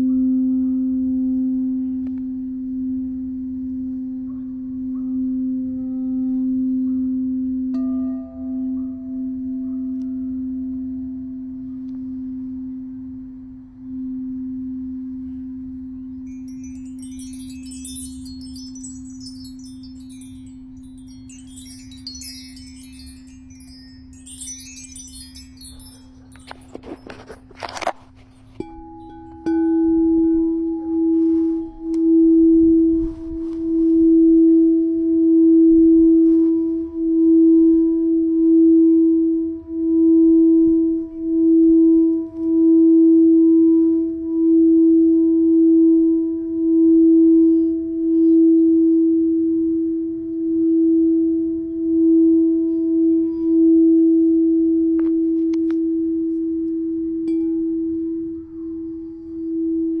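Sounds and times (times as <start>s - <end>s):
singing bowl ringing: 0.0s - 11.6s, 13.8s - 49.8s, 50.6s - 60.0s.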